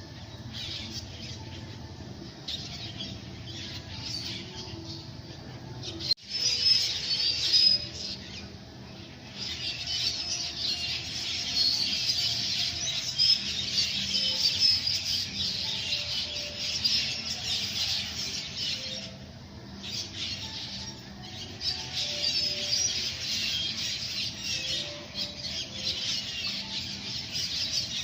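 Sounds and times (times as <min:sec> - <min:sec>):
flock of birds calling: 0:00.0 - 0:28.0.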